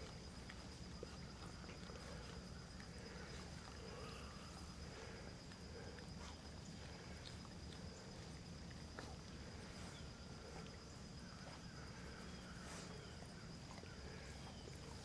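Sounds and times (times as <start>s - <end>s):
puppies suckling: 0.0s - 15.0s.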